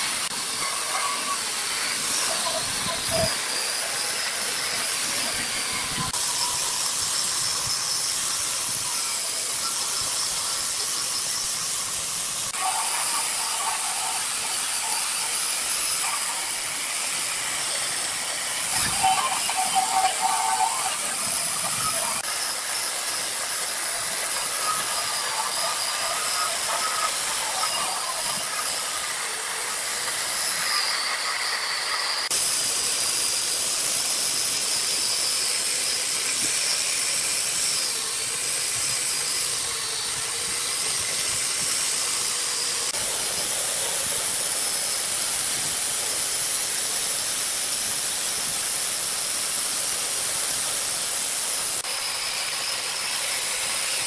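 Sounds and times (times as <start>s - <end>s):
loud hissing noise: 0.0s - 54.0s.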